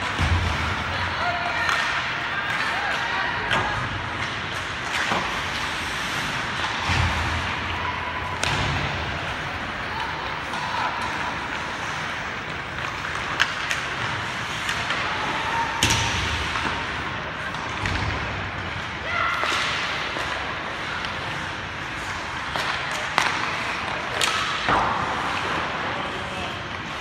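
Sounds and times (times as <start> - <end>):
hockey sticks and puck clacking: 0.0 - 27.0
skates scraping on ice: 0.0 - 27.0.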